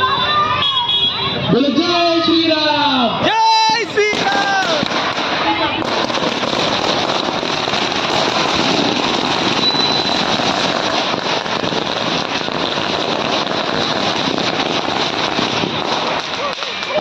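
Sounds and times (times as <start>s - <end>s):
fireworks hissing crackle: 3.3s - 17.0s.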